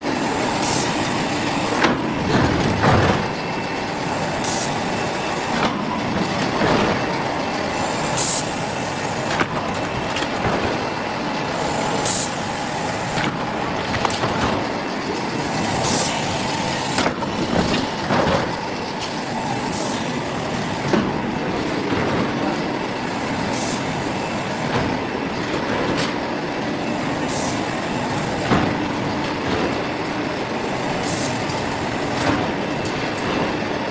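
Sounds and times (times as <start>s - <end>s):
steady machine hum: 0.0s - 33.9s.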